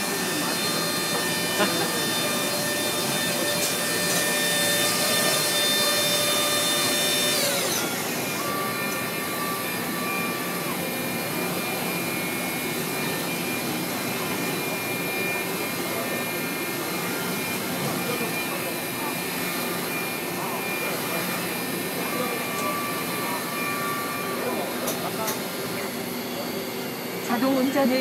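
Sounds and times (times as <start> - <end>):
machine tool whining: 0.0 - 28.0.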